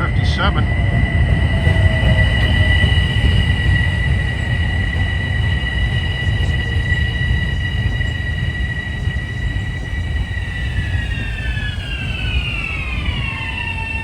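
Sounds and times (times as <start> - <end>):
electric train rumble and whine: 0.0 - 14.0.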